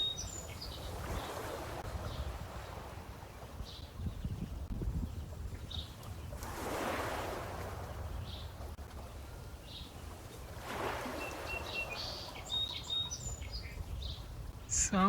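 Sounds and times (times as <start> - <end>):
lake water washing: 0.0 - 15.0
songbirds chirping: 0.0 - 15.0.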